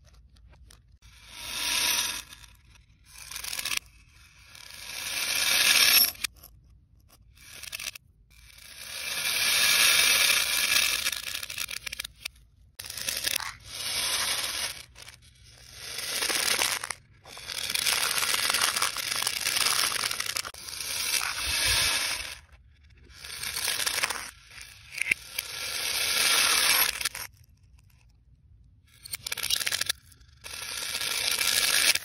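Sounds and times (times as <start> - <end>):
reversed plastic beads rattling: 0.6 - 6.3, 7.3 - 27.3, 28.9 - 32.0.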